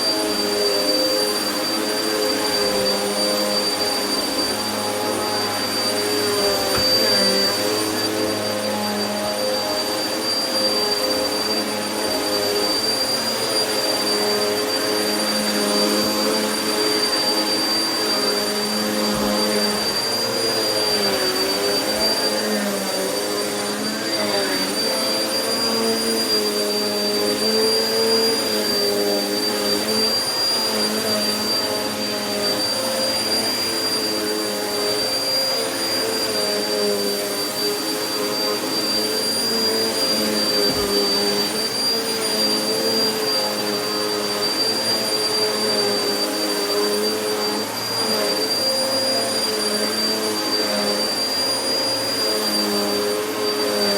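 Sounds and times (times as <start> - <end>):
vacuum cleaner on carpet: 0.0 - 53.9.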